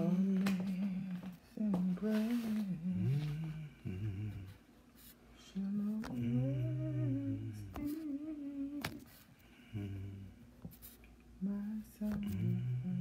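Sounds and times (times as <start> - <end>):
low voice humming: 0.0 - 4.6, 5.4 - 10.5, 11.4 - 13.0.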